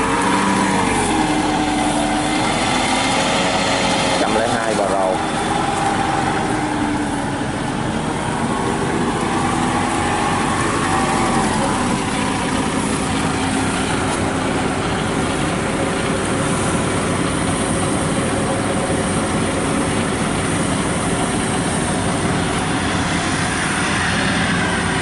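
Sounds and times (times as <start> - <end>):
combine harvester running: 0.0 - 25.0
machinery rattle: 0.0 - 25.0.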